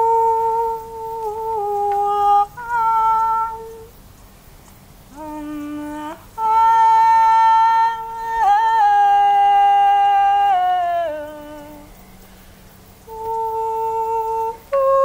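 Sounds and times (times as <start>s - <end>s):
slow music of long held notes: 0.0s - 4.0s, 5.1s - 15.0s.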